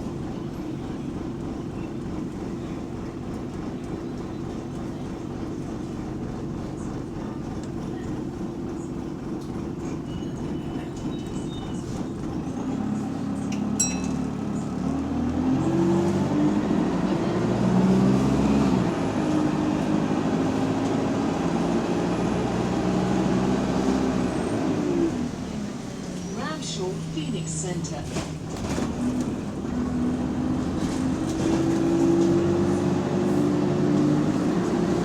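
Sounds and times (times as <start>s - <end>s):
bus engine pulling away: 0.0s - 35.0s.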